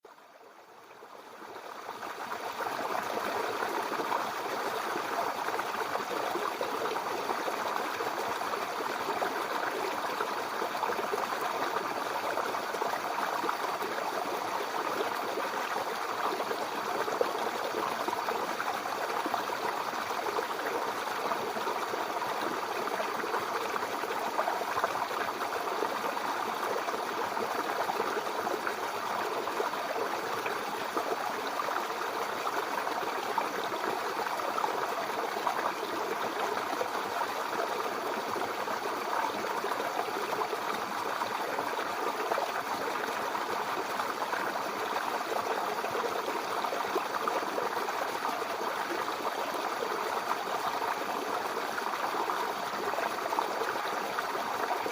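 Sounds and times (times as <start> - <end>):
babbling brook: 0.1 - 54.9.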